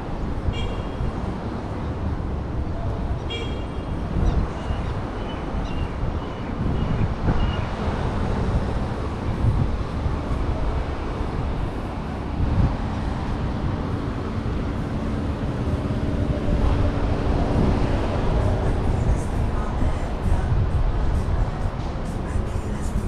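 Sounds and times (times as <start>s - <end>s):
low traffic rumble: 0.0s - 23.0s.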